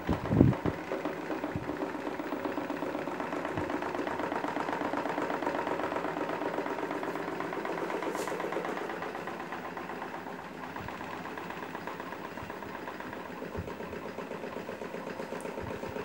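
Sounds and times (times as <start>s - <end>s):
desk fans running: 0.0s - 16.0s
electric fan whirring: 0.0s - 16.0s.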